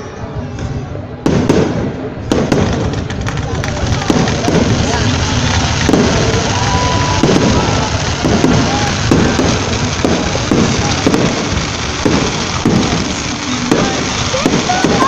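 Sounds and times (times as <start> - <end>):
fireworks crackling and popping: 1.2 - 15.0.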